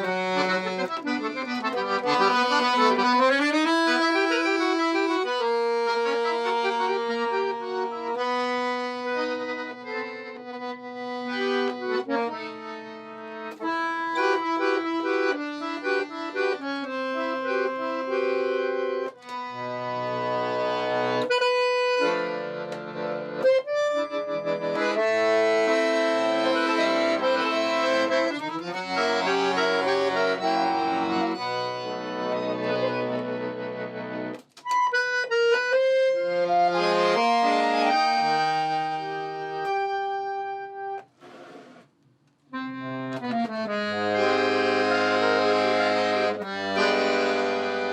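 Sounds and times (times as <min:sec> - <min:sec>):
accordion melody: 0:00.0 - 0:47.9.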